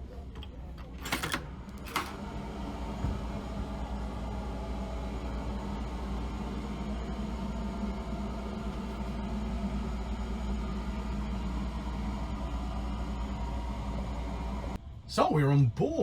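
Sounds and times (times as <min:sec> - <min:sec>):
train machinery humming: 0:00.0 - 0:15.6.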